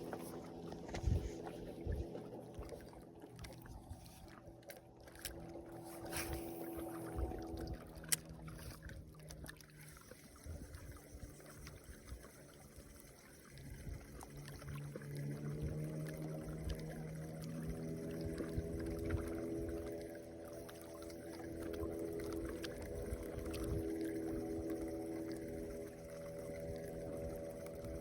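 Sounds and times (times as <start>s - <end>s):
boat motor humming: 0.0s - 28.0s
water sounds: 0.0s - 28.0s.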